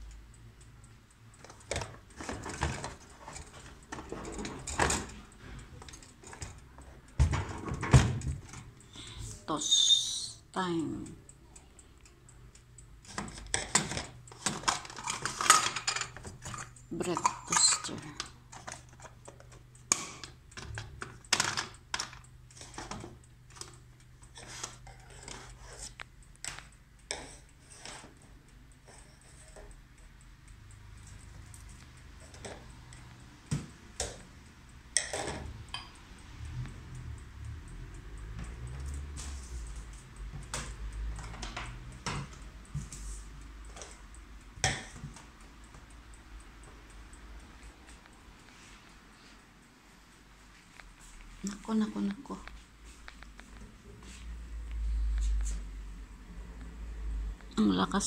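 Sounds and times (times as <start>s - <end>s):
light clicks and taps: 0.0s - 9.2s, 10.6s - 49.5s, 50.1s - 55.7s.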